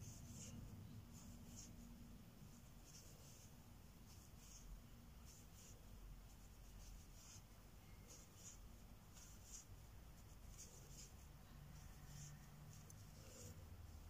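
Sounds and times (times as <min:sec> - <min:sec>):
crochet hook rustling through yarn: 0:00.0 - 0:14.0.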